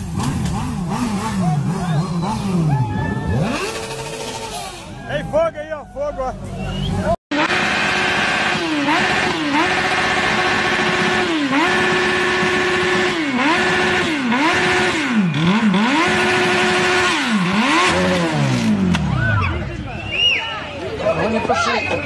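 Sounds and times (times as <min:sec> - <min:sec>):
motorcycle engine revving: 0:00.0 - 0:05.3, 0:06.7 - 0:19.7.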